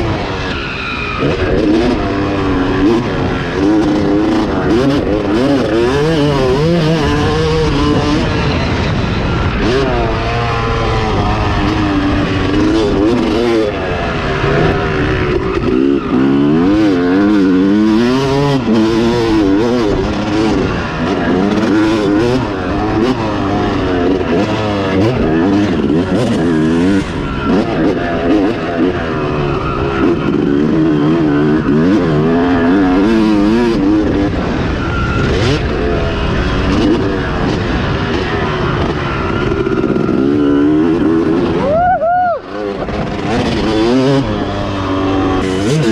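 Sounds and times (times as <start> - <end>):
motocross engine revving: 0.0 - 41.8, 42.4 - 45.9.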